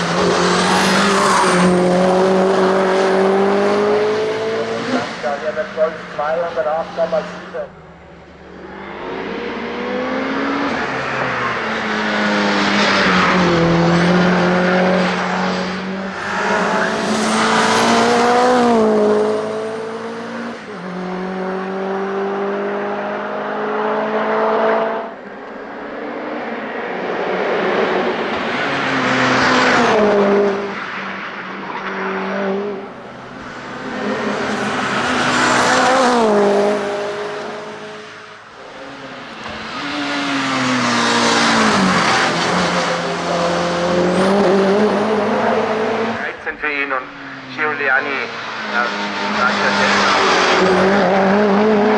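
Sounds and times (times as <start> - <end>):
car engine accelerating hard: 0.0 - 7.5, 8.3 - 25.2, 25.8 - 51.9.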